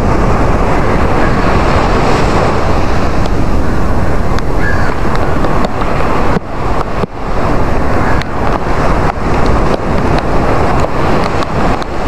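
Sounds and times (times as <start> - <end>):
waves breaking on rocks: 0.0 - 12.0
wind rumble on microphone: 0.0 - 12.0.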